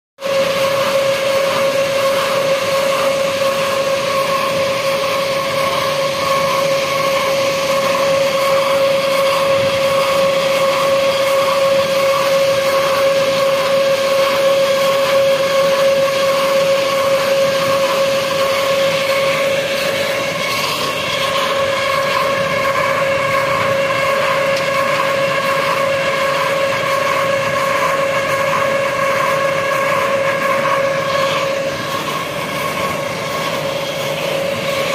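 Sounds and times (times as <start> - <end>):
stone crusher machinery drone: 0.2 - 34.9.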